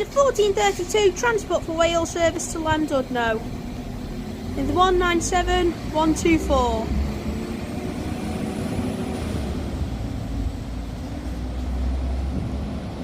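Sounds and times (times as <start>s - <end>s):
diesel train engine rumble: 0.0s - 13.0s.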